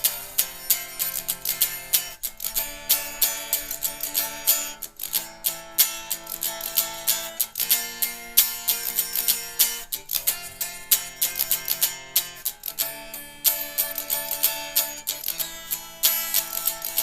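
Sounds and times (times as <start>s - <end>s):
guitar strummed: 0.0s - 17.0s.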